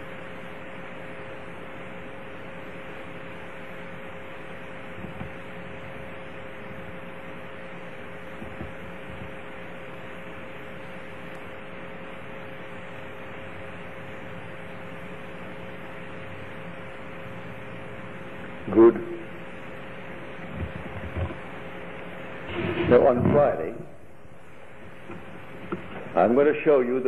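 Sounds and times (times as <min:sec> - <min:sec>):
two-tone hum: 0:00.0 - 0:27.0.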